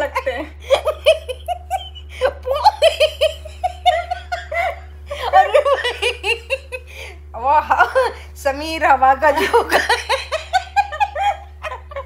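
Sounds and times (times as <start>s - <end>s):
woman laughing hard: 0.0s - 7.2s, 9.4s - 12.0s.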